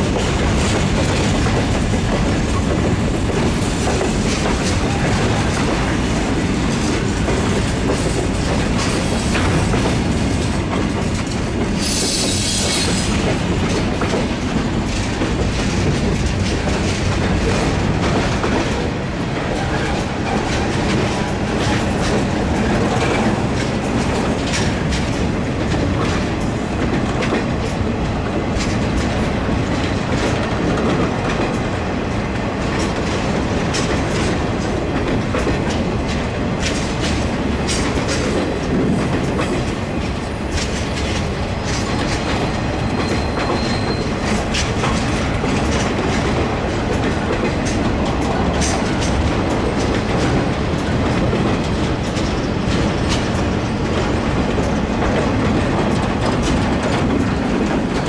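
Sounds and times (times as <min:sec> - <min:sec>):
steel wheels rumbling on rail: 0:00.0 - 0:58.0
wheels clicking over rail joints: 0:00.1 - 0:58.0.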